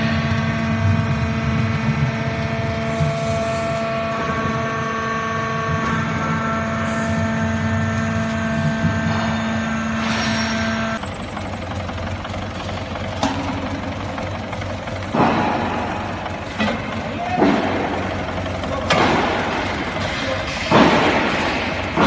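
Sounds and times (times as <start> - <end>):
baler machine hum: 0.0 - 22.0
rough machine running noise: 0.0 - 22.0
whining machine tones: 0.0 - 22.0.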